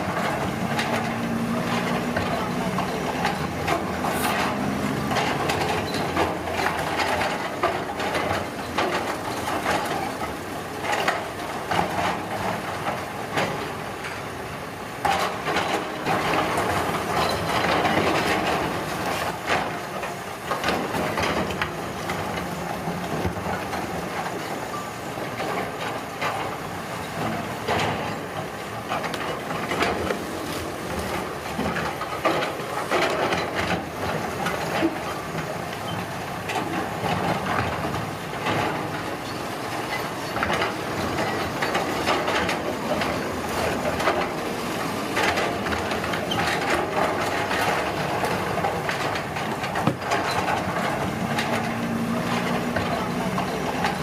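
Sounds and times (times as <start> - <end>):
diesel engines running: 0.0 - 54.0
machinery knocks and clanks: 0.0 - 54.0.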